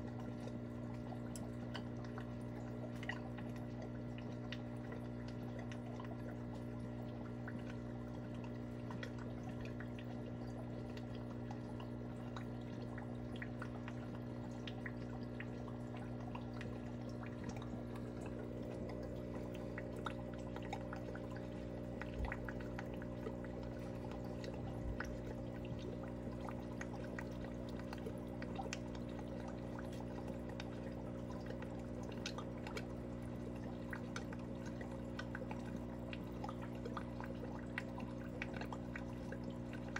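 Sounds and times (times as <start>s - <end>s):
filter bubbling water: 0.0s - 39.9s.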